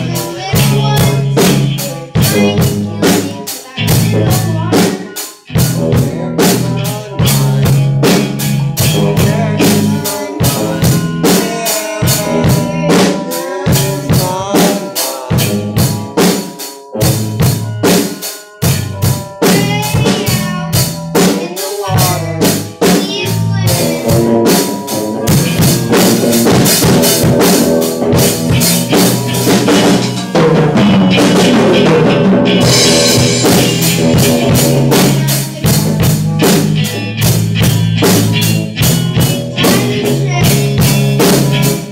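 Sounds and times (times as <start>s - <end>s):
person singing: 0.0s - 17.4s, 18.7s - 30.7s, 31.4s - 41.9s
drum hits: 0.0s - 41.9s
rock band playing live: 0.0s - 41.9s.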